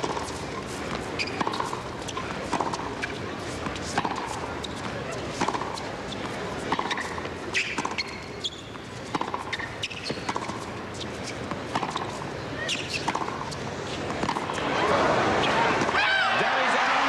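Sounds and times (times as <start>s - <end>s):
tennis ball struck by rackets: 0.0s - 8.2s, 9.1s - 14.7s.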